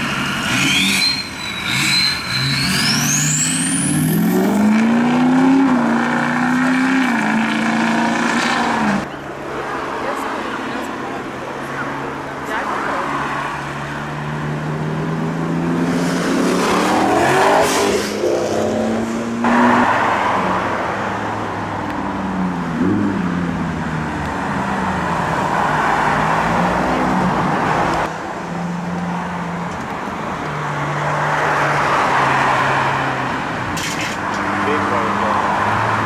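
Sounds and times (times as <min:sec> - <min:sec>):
car engines revving past: 0:00.0 - 0:36.0
road noise: 0:00.0 - 0:36.0.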